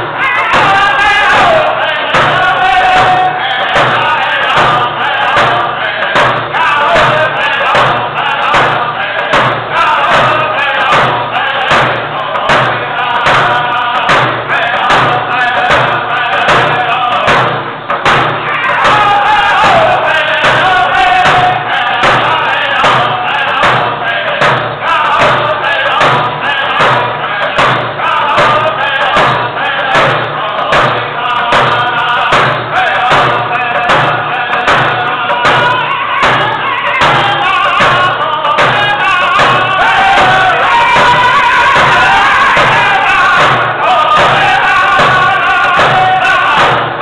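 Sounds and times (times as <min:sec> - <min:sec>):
hand drum beats: 0:00.0 - 0:47.0
men singing together: 0:00.0 - 0:47.0.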